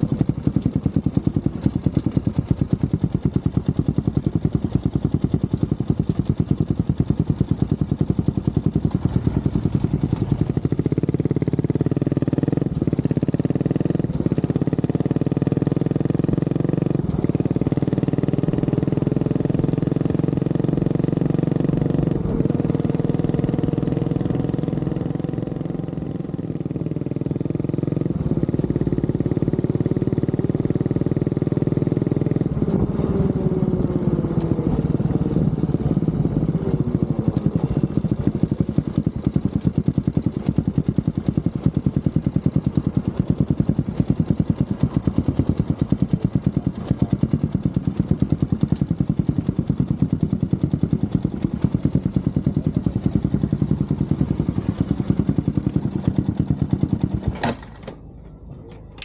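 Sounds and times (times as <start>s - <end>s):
single-cylinder motorcycle engine: 0.0s - 59.0s.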